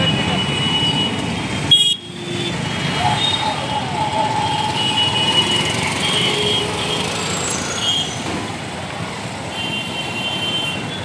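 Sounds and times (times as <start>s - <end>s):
motorcycles and rickshaws running: 0.0s - 11.0s.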